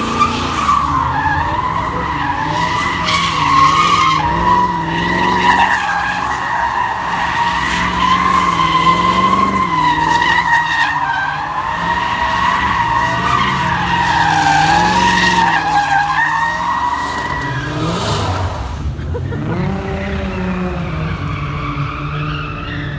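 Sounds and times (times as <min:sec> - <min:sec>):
car engine revving: 0:00.0 - 0:22.9
car tyres squealing: 0:00.0 - 0:22.9.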